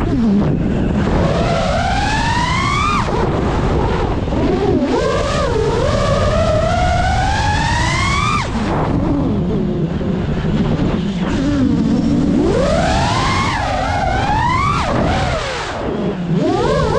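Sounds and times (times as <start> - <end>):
low rumble: 0.0 - 16.9
quadcopter propellers whining: 0.0 - 16.9.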